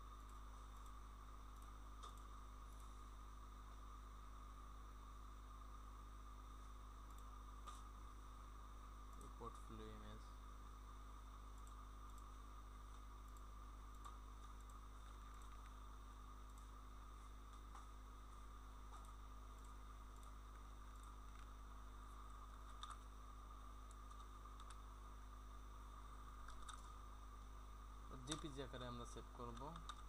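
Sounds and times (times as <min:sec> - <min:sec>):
electrical hum and hiss: 0:00.0 - 0:30.0.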